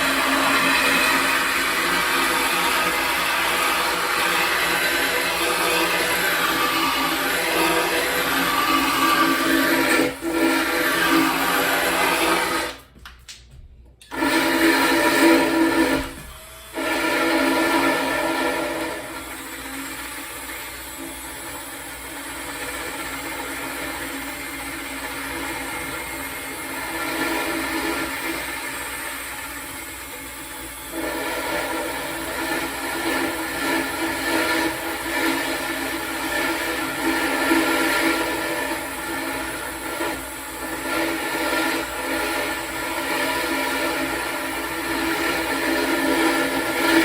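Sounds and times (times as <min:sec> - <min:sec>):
cordless drill motor whining: 0:00.0 - 0:12.8, 0:14.0 - 0:47.0.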